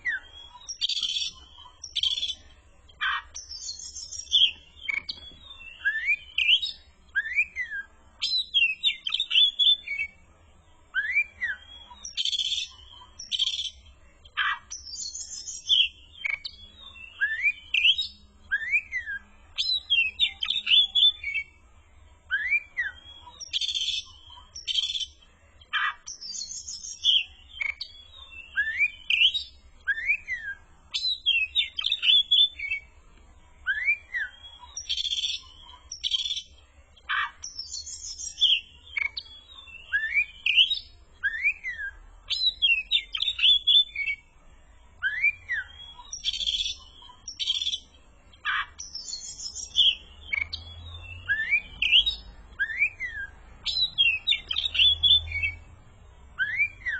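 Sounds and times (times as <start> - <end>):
bird singing whistles: 3.0 - 10.2, 10.9 - 13.8, 14.4 - 21.6, 22.3 - 25.1, 25.7 - 32.9, 33.7 - 36.5, 37.1 - 44.2, 45.0 - 47.8, 48.4 - 55.6, 56.4 - 56.9.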